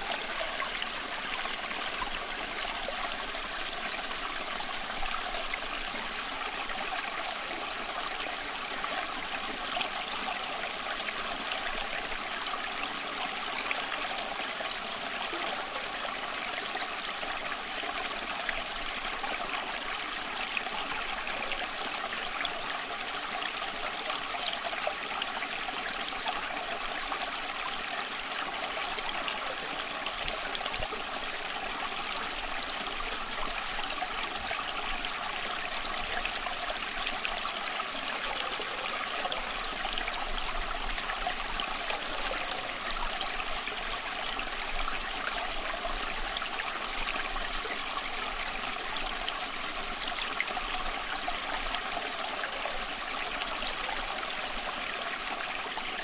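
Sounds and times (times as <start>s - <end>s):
creek trickling over stones: 0.0s - 56.0s.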